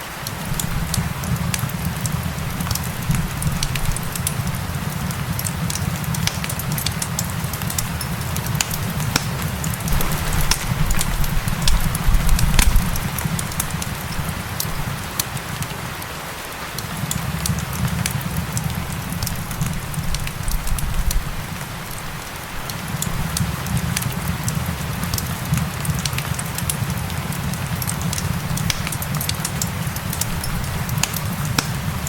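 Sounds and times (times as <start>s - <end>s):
rain hissing: 0.0s - 32.0s
wood fire crackling and popping: 0.1s - 32.0s.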